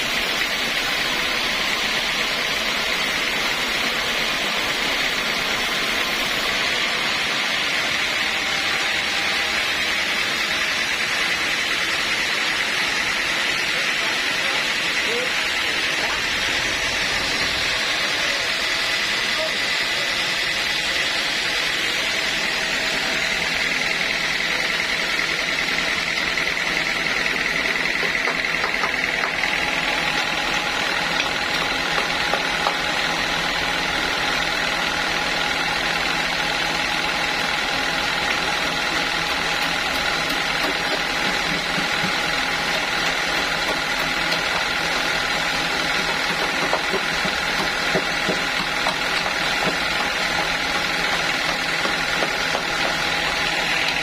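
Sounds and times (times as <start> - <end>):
sawmill machinery hum and whine: 0.0 - 54.0.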